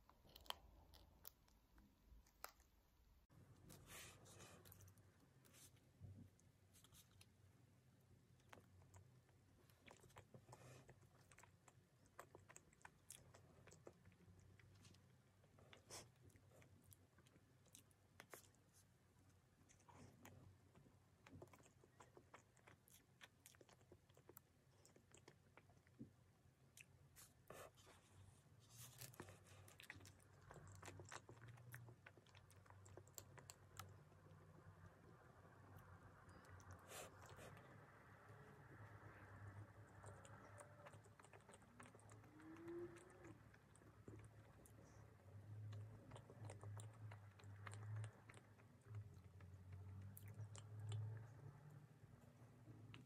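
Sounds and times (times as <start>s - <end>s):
low steady hum: 0.0s - 53.0s
soft chewing: 0.0s - 53.0s.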